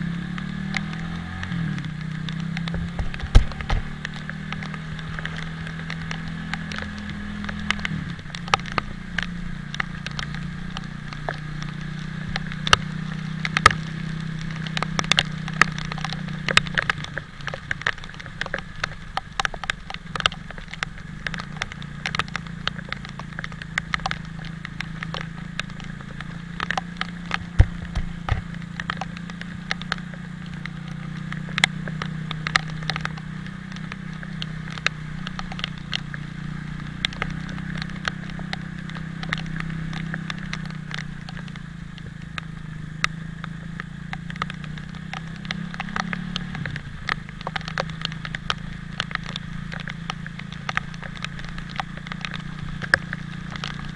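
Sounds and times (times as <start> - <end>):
motorcycle engine running: 0.0 - 53.9
raindrops hitting microphone: 0.0 - 53.9.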